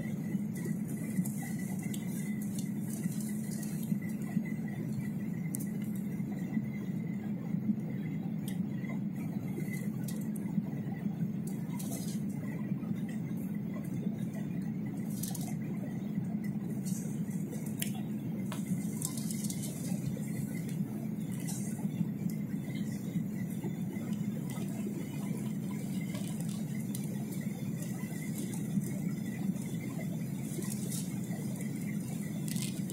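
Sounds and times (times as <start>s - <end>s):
faint high whine: 0.0s - 32.9s
jet engine and airflow rumble: 0.0s - 32.9s.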